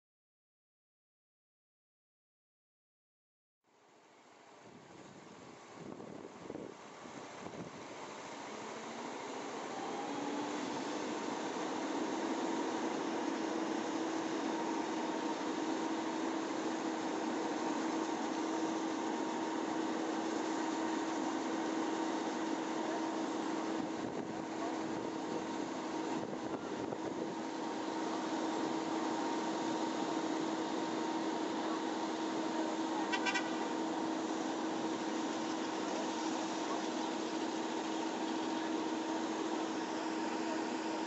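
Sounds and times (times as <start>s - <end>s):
water pump engines humming: 3.7s - 41.0s.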